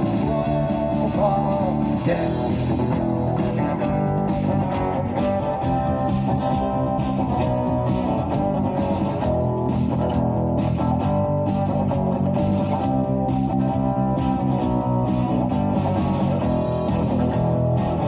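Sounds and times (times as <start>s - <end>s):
bass guitar: 0.0s - 18.0s
guitars: 0.0s - 18.0s
steady drum beat: 0.0s - 18.0s.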